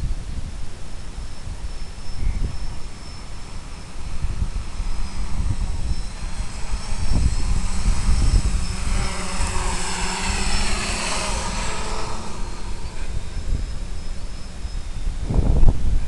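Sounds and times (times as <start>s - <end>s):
wind rumble on microphone: 0.0s - 16.0s
drone motors and propellers whining: 0.3s - 16.0s.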